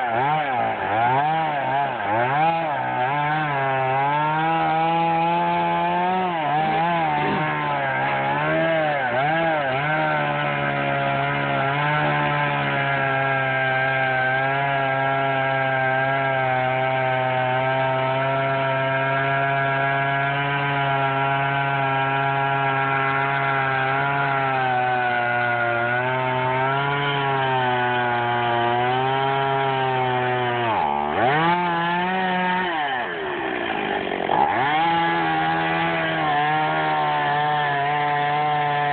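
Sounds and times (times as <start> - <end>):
chainsaw cutting through tree: 0.0 - 38.9.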